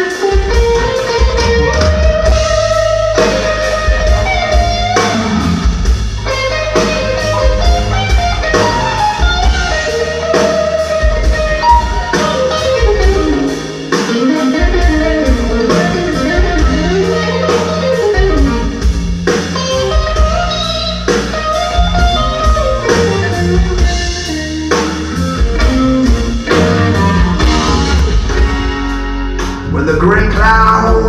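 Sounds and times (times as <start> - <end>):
bass guitar: 0.0 - 31.0
drum kit: 0.0 - 31.0
electric guitar lead with bending notes: 0.0 - 31.0.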